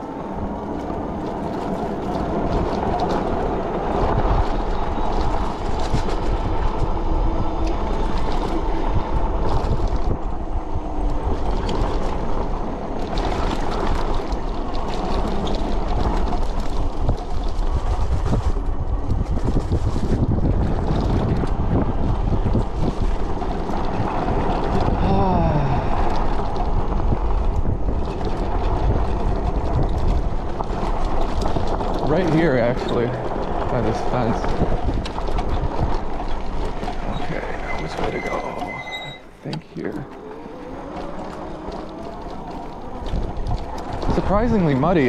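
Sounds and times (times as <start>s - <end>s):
knocks and rattles from riding: 0.0s - 45.0s
low rumble: 0.0s - 45.0s
wind buffeting microphone: 0.0s - 45.0s.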